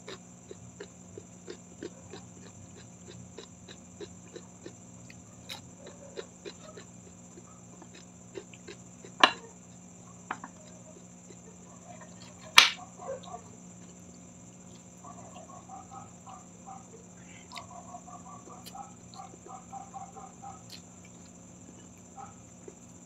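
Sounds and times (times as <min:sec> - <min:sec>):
chewing crisp cucumber: 0:00.0 - 0:23.0.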